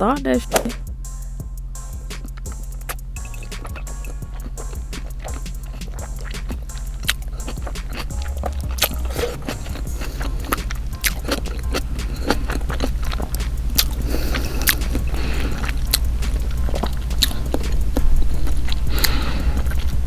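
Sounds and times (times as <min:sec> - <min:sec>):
steady low hum: 0:00.0 - 0:20.0
wet chewing and lip smacks: 0:02.2 - 0:20.0.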